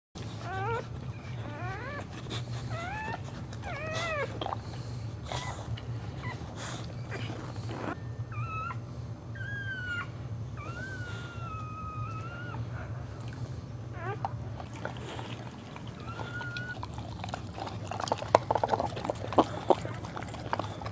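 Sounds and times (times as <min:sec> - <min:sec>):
dog whining and whimpering: 0:00.2 - 0:20.9
low steady hum: 0:00.2 - 0:20.9.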